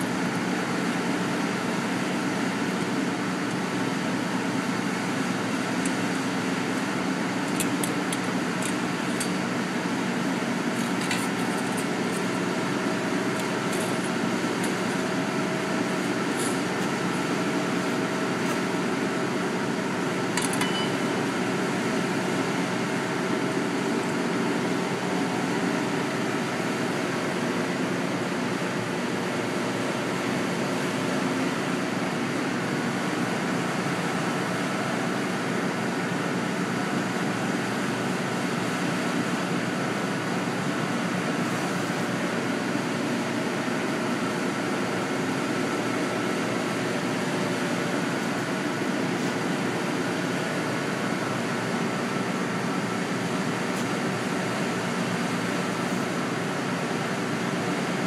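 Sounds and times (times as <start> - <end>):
fan humming: 0.0 - 58.0.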